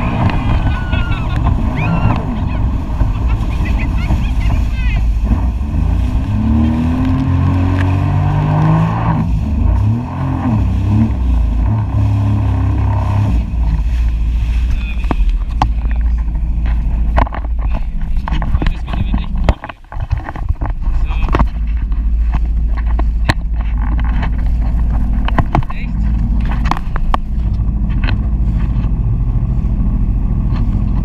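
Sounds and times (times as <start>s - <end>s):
jet ski engine revving: 0.0s - 19.6s, 20.2s - 31.0s.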